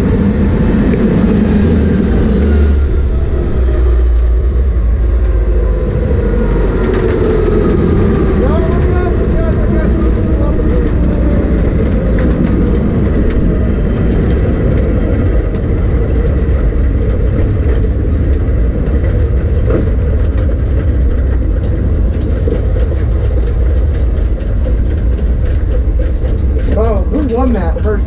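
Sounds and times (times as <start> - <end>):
race car engine droning: 0.0 - 28.0
ticking clatter: 0.0 - 28.0.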